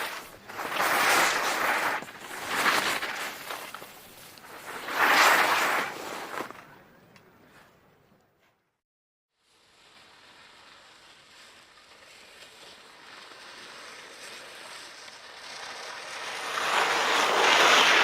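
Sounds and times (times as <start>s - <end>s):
skis sliding over snow: 0.0s - 6.9s, 9.4s - 18.0s.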